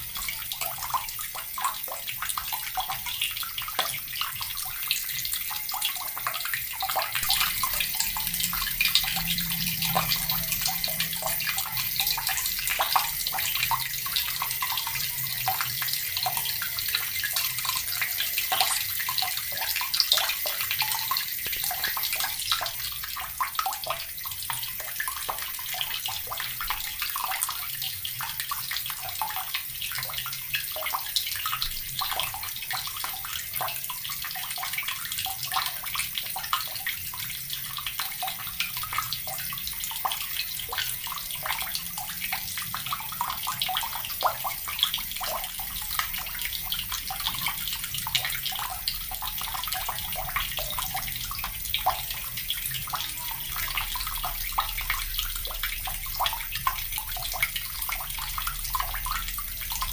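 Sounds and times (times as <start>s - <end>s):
tap water splashing into bucket: 0.0s - 59.9s.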